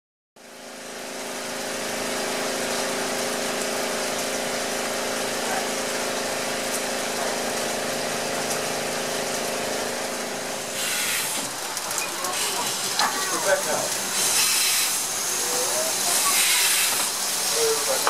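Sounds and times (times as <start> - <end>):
steam escaping with hum: 0.4 - 18.0
heavy rain pouring: 2.0 - 18.0.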